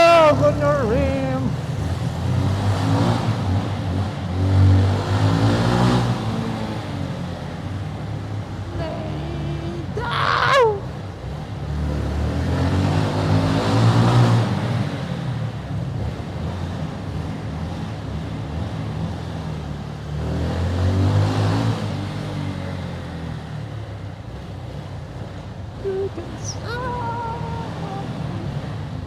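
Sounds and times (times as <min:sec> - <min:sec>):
wind and road noise: 0:00.0 - 0:29.0.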